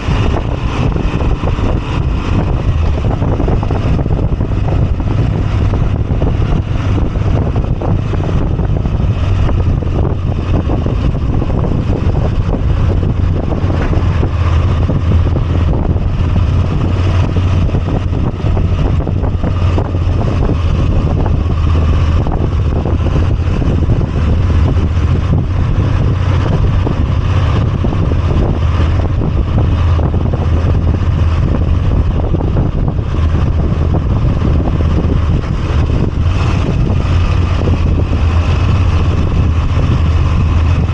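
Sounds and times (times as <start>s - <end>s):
motorcycle engine running: 0.0s - 40.9s
wind rush over microphone: 0.0s - 40.9s.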